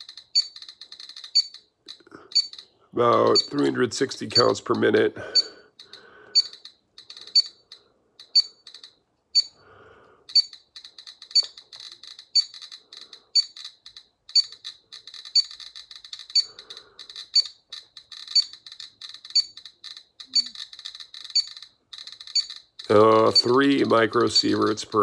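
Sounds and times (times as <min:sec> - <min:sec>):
geiger counter alarm beeping: 0:00.0 - 0:01.7, 0:02.3 - 0:04.6, 0:05.3 - 0:09.6, 0:10.3 - 0:13.7, 0:14.3 - 0:24.8
geiger counter ticking: 0:00.0 - 0:09.6, 0:10.2 - 0:25.0.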